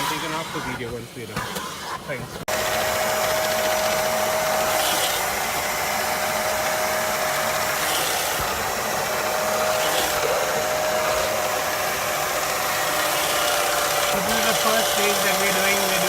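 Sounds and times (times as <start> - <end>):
vacuum motor whining: 0.0 - 16.0.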